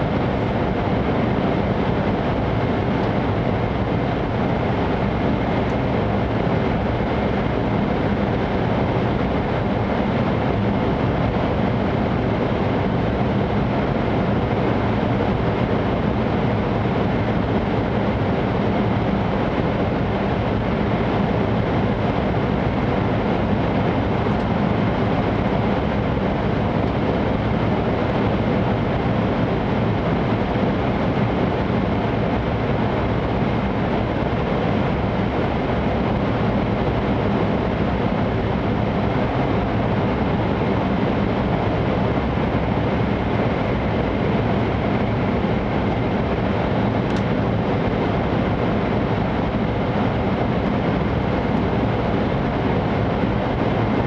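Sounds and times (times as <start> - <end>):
train cabin rail and air noise: 0.0 - 54.0.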